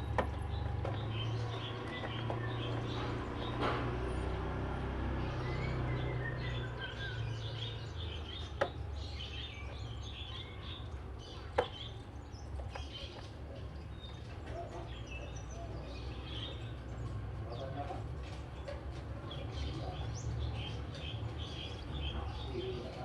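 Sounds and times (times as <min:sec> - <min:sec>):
bird chirping song: 0:00.0 - 0:23.0.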